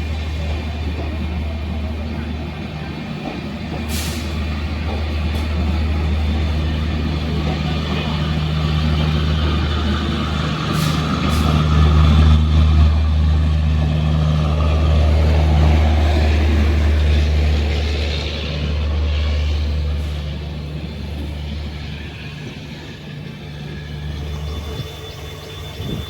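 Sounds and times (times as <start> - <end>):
train engine rumble: 0.0 - 26.0.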